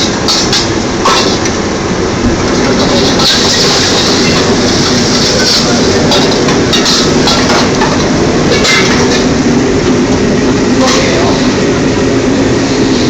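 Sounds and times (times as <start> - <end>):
wok burner and exhaust roar: 0.0 - 13.0.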